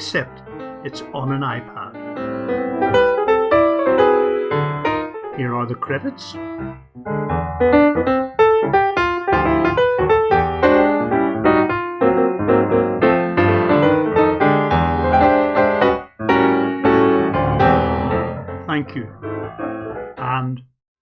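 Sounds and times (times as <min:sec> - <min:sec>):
piano music: 0:00.0 - 0:20.6.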